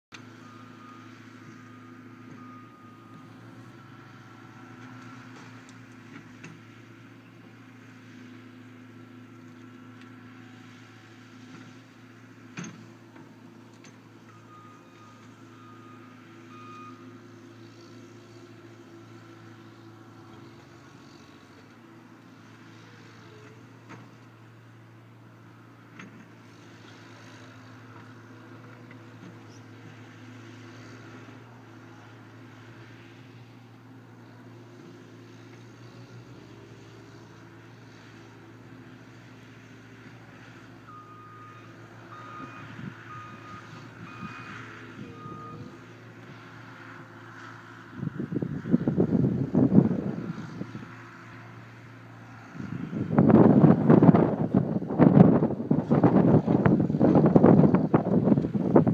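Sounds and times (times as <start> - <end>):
excavator diesel engine running: 0.1 - 58.9.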